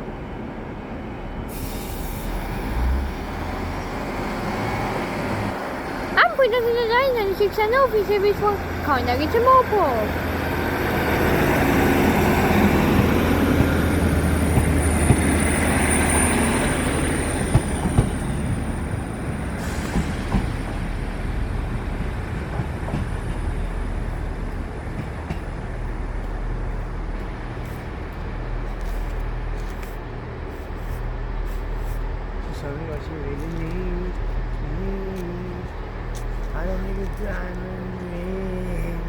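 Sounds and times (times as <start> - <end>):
train engine drone: 0.0 - 39.0.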